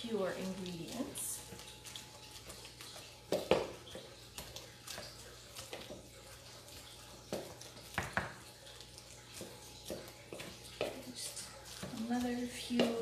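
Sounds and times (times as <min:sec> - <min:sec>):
pestle mashing avocado: 0:00.0 - 0:13.0.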